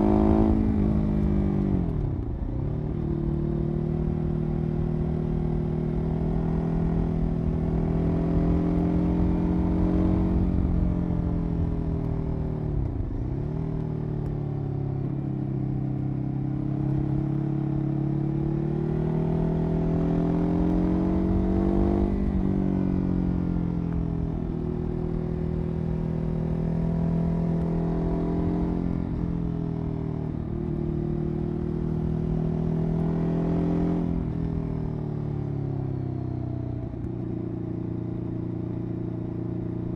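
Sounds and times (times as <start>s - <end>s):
motorcycle engine revving: 0.0s - 2.0s, 2.8s - 35.5s.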